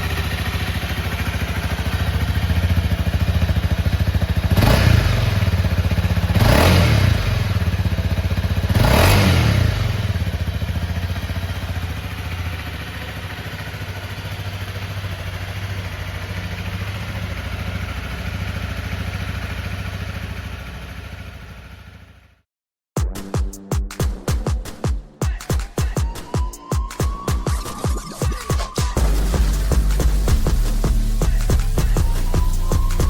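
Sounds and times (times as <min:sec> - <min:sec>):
motorbike engine revving and idling: 0:00.0 - 0:22.4, 0:28.9 - 0:33.0.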